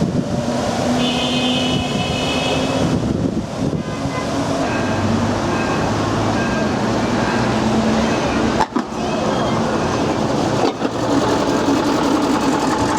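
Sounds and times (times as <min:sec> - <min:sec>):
rail vehicle rumble and rattle: 0:00.0 - 0:12.9.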